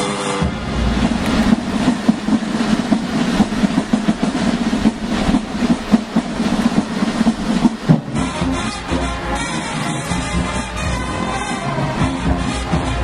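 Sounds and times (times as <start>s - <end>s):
drumline playing fast cadence: 0.2s - 13.0s.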